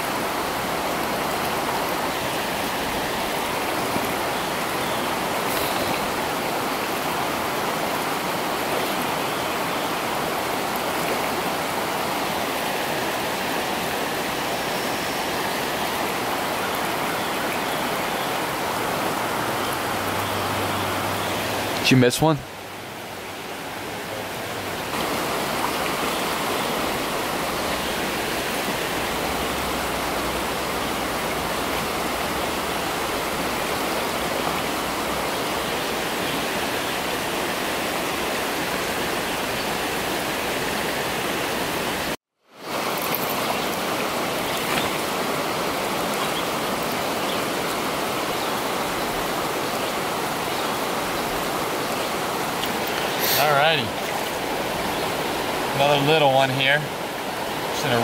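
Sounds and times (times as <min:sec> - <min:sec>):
mountain stream flowing: 0:00.0 - 0:58.0.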